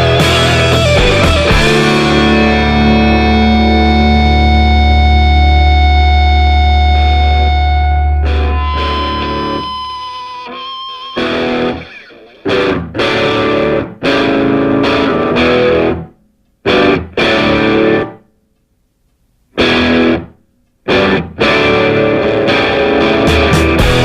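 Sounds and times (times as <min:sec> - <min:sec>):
distorted electric guitar chords: 0:00.0 - 0:18.3, 0:19.6 - 0:24.0.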